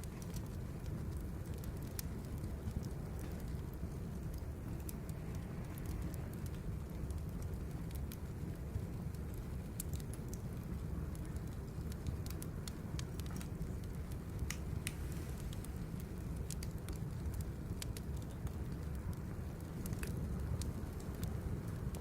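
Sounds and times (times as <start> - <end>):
fire crackling and popping: 0.0 - 22.0
low rumble of fire: 0.0 - 22.0.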